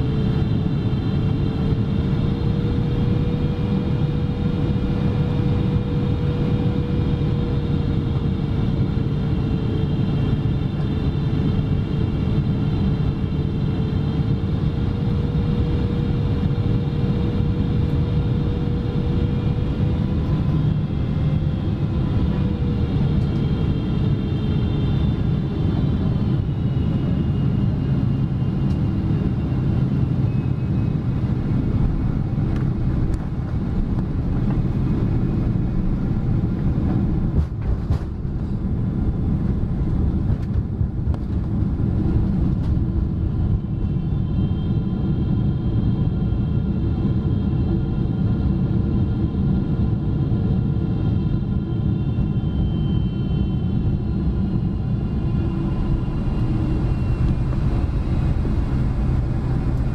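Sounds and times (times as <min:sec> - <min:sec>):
jet engine rumble and whine: 0:00.0 - 0:59.9.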